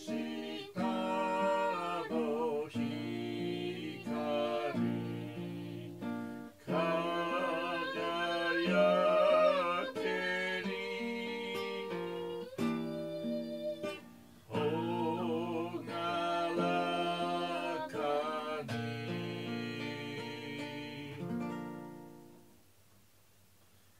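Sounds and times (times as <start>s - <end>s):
person singing a hymn: 0.0s - 21.6s
acoustic guitar: 0.0s - 22.7s.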